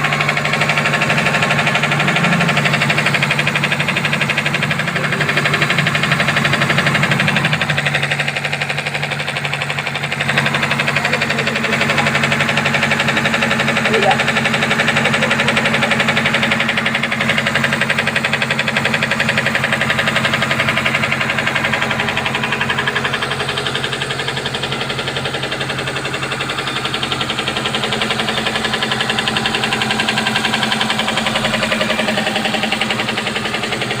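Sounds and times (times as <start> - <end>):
engine running with knock: 0.0 - 34.0.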